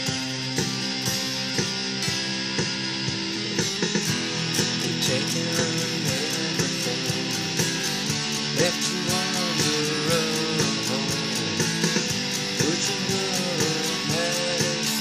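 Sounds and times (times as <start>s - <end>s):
electric guitar played with a pick: 0.0s - 15.0s.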